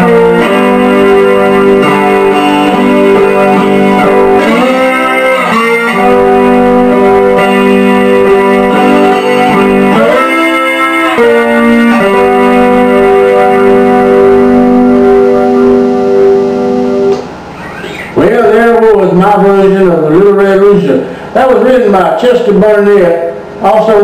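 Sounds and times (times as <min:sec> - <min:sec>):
electric slide guitar blues: 0:00.0 - 0:20.4.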